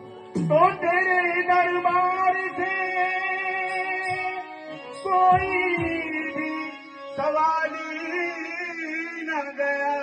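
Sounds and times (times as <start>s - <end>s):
man singing long held notes: 0.5s - 10.0s.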